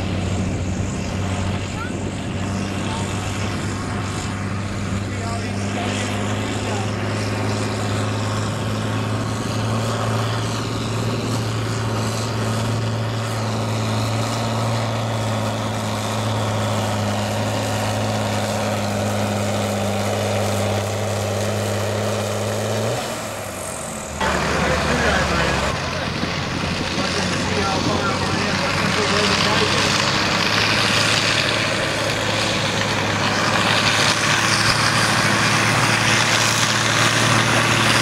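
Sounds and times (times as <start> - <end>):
tractor diesel engine droning: 0.0 - 38.0.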